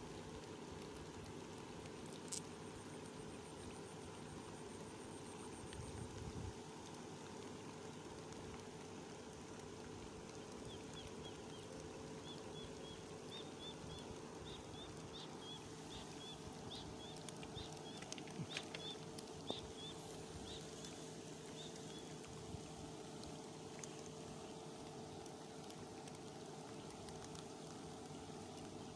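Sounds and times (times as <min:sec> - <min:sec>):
heavy rain on water: 0:03.8 - 0:28.9.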